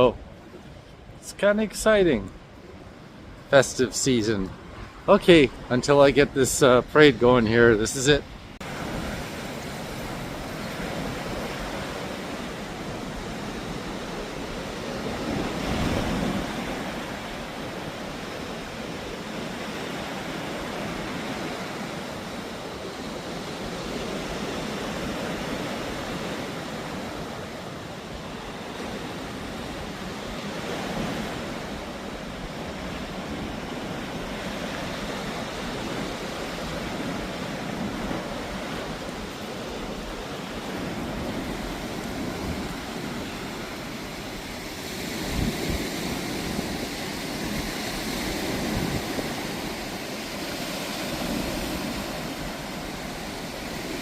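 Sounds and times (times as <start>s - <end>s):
ocean surf washing ashore: 0.0s - 54.0s
wind buffeting microphone: 8.2s - 54.0s.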